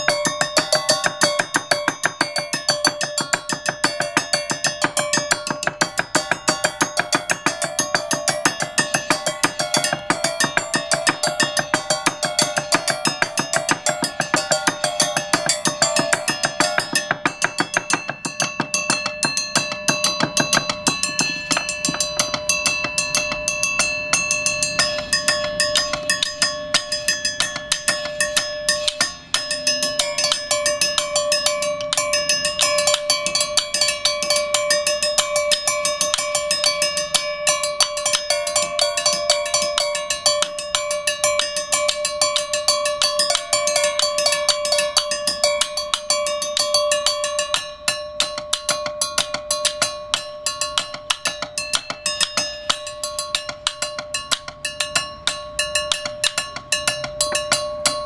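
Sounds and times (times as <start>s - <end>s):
mallets striking ringing blocks: 0.0s - 58.0s
sustained ringing notes: 0.0s - 58.0s.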